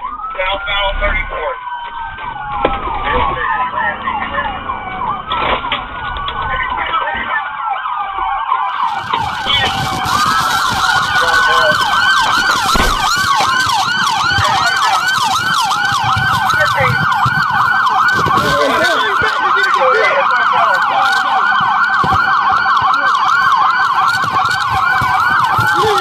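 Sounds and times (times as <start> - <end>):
police sirens wailing and yelping: 0.0 - 26.0.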